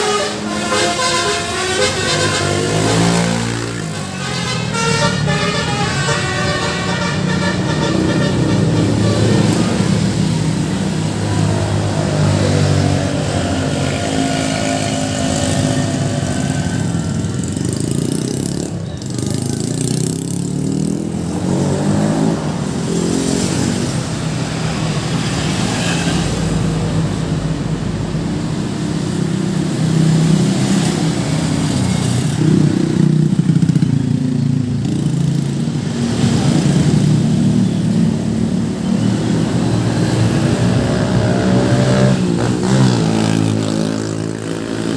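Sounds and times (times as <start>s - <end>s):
vehicles passing by: 0.0s - 44.9s.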